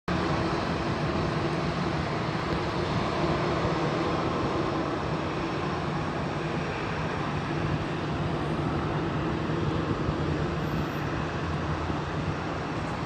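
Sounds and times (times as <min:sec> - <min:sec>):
jet engines droning: 0:00.1 - 0:13.0.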